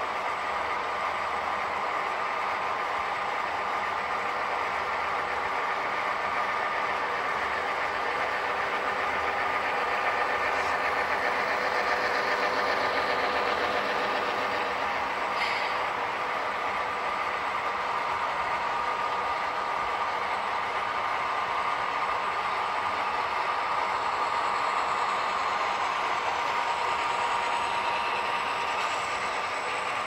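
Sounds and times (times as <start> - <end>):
model train running: 0.0 - 30.0.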